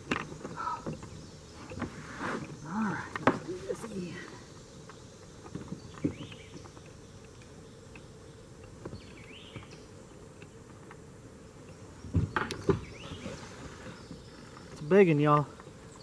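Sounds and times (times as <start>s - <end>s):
insects buzzing faintly: 0.0s - 16.0s.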